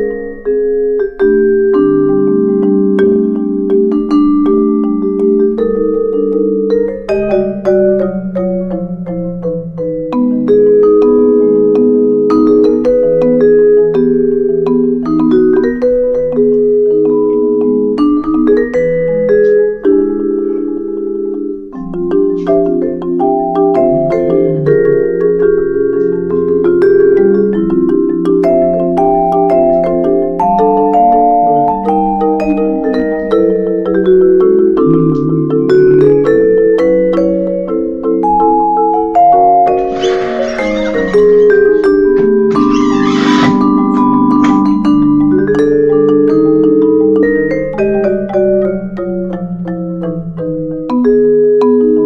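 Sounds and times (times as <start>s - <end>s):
instrumental music with sustained chords: 0.0s - 52.0s.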